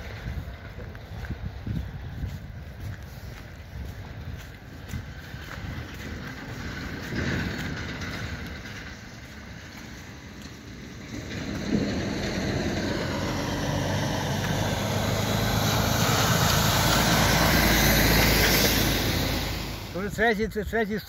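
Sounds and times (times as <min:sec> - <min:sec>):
truck engine and tyre noise: 0:00.0 - 0:21.0.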